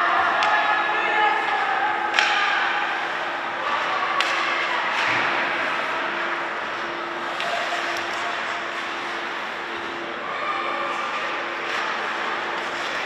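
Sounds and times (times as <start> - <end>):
low hum of hall: 0.0 - 13.0
sticks and puck clacking: 0.2 - 0.7, 1.4 - 13.0.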